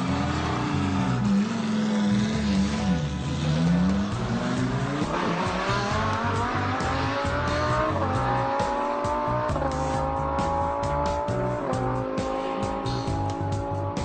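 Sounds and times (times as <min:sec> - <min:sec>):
background music with steady beat: 0:00.0 - 0:14.0
race car engine accelerating: 0:00.0 - 0:14.0.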